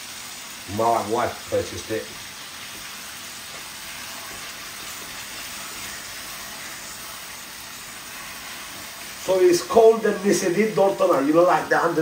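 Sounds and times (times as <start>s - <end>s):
curry sizzling in a pot: 0.0s - 12.0s.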